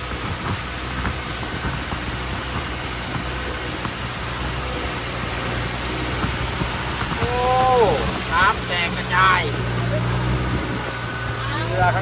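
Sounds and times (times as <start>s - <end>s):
boat engine low hum: 0.0s - 12.0s
rushing water: 0.0s - 12.0s
wind: 0.0s - 12.0s.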